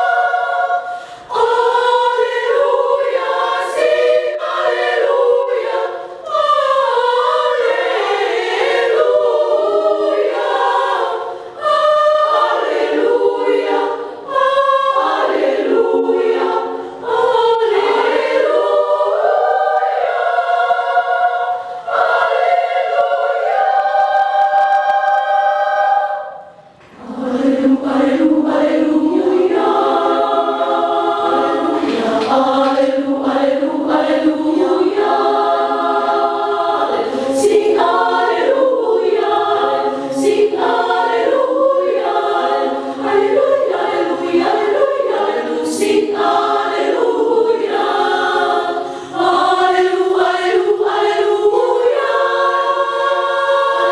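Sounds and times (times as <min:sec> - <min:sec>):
women's choir singing: 0:00.0 - 0:53.9.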